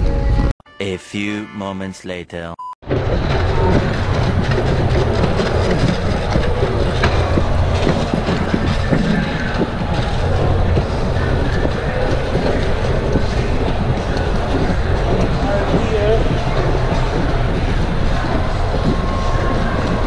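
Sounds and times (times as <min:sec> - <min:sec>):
metal cart rolling over tiles: 0:02.9 - 0:20.0.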